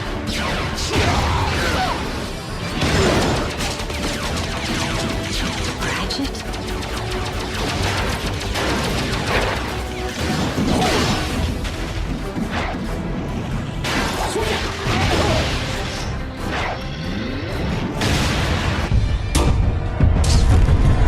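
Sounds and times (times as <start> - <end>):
action soundtrack music: 0.0 - 21.0.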